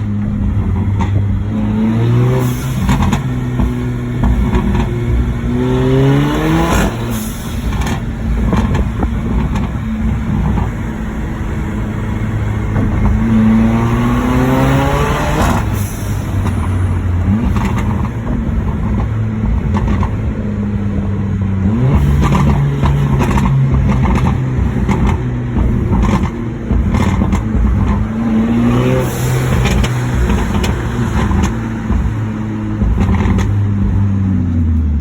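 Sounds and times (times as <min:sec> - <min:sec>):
car engine accelerating: 0:00.0 - 0:35.0
exhaust cracks: 0:00.0 - 0:35.0.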